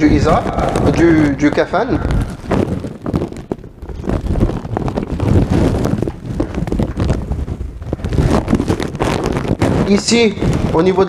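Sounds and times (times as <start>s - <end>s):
small clicks and scrapes: 0.0s - 10.9s
fabric rustling and rubbing: 0.0s - 11.0s.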